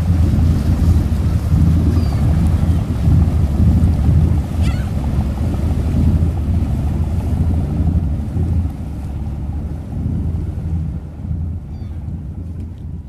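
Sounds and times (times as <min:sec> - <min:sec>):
boat engine running: 0:00.0 - 0:13.0
wind buffeting microphone: 0:00.0 - 0:13.0.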